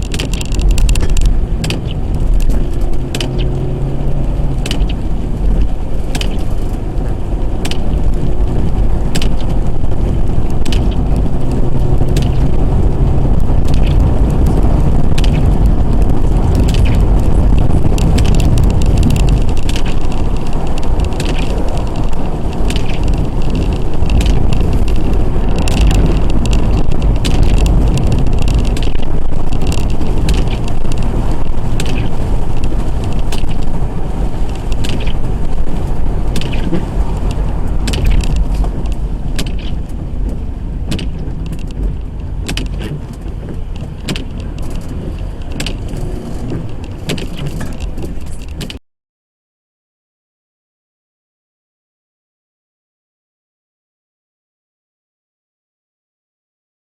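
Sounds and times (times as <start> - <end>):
car road and engine rumble: 0.0 - 48.8
small rattles and ticks: 0.0 - 48.8.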